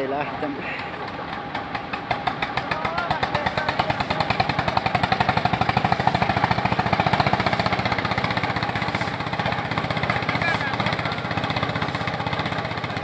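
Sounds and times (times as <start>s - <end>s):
tractor engines idling: 0.0s - 13.0s.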